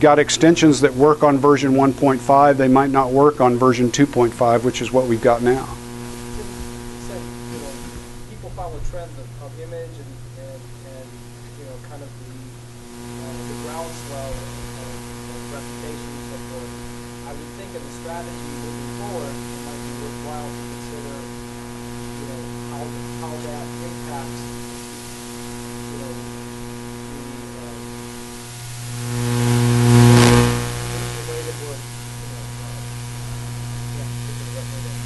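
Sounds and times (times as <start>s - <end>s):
electrical crackle: 0.0s - 35.0s
electrical mains hum: 0.0s - 35.0s.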